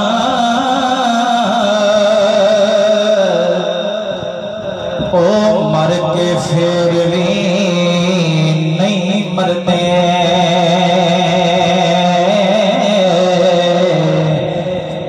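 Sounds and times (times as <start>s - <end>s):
man singing over a pa system: 0.0s - 15.0s.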